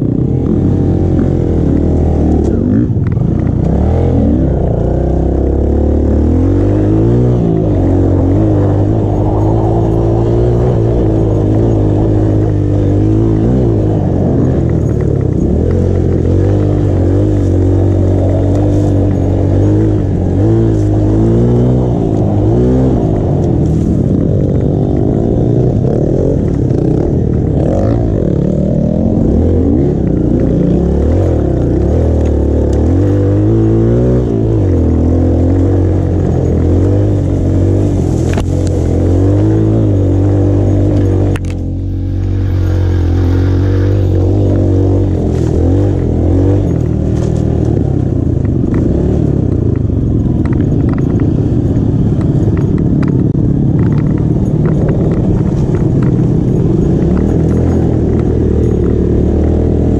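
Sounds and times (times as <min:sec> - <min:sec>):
dirt bike engine revving: 0:00.0 - 0:49.7.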